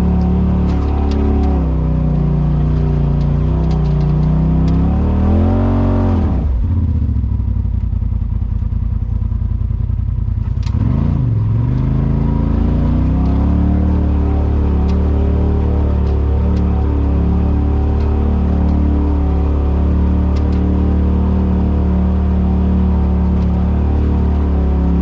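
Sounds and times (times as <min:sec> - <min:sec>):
off-road vehicle engine revving: 0:00.0 - 0:07.3, 0:10.3 - 0:25.0.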